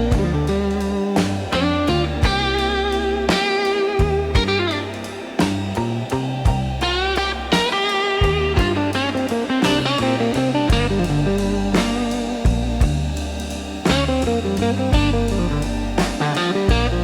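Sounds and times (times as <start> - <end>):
bass: 0.0 - 17.0
drum kit: 0.0 - 17.0
electric guitar lead lines: 0.0 - 17.0.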